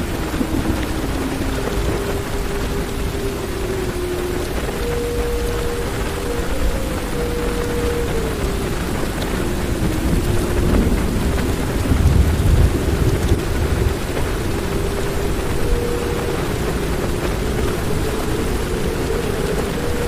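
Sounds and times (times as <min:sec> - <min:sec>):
heavy rain on car roof: 0:00.0 - 0:20.0
thunder rumble: 0:00.0 - 0:20.0.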